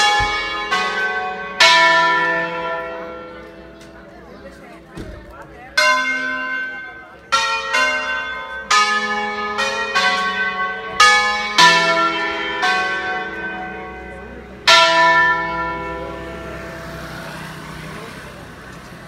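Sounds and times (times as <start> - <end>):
church bells ringing: 0.0 - 18.9.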